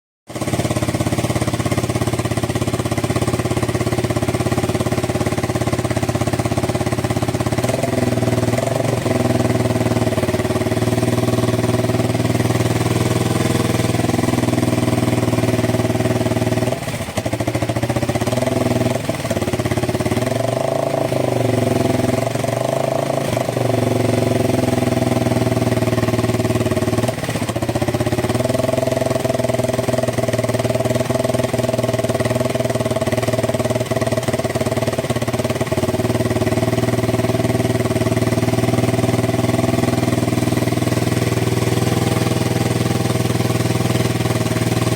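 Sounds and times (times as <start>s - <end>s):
motorcycle engine idling: 0.3s - 44.9s.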